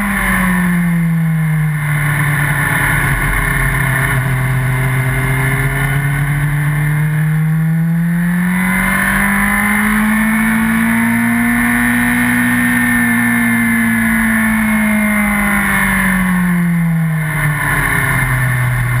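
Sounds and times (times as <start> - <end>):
motorcycle engine running hard: 0.0 - 19.0.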